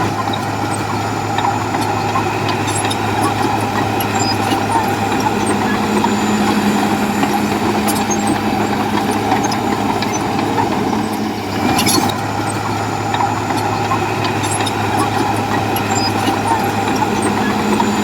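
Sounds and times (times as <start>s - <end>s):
bulldozer engine running: 0.0s - 18.0s.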